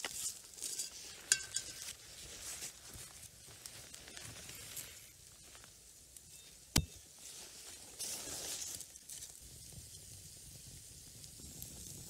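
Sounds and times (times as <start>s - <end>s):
campfire hissing and crackling: 0.0s - 12.0s.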